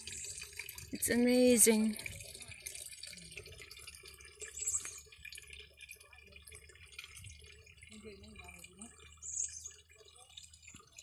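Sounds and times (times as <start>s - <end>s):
water trickling into a pool: 0.0s - 11.0s.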